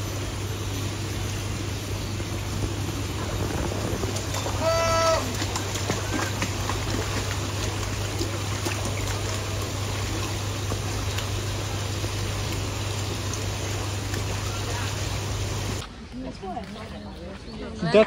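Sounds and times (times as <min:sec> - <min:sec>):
running water rushing: 0:00.0 - 0:15.9
low hum: 0:00.0 - 0:16.0.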